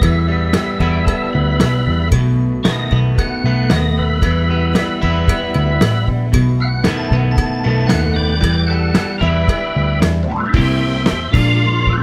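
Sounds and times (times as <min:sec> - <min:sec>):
organ-like keyboard chords: 0:00.0 - 0:12.0
steady beat: 0:00.0 - 0:12.0.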